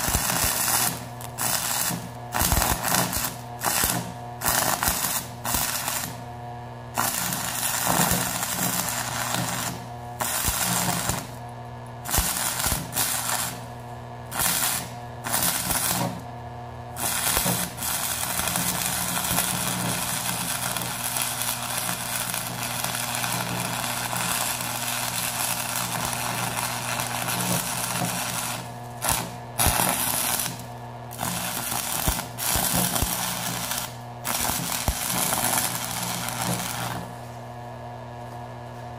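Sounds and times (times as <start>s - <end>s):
welding arc crackling: 0.0s - 16.3s, 17.0s - 37.4s.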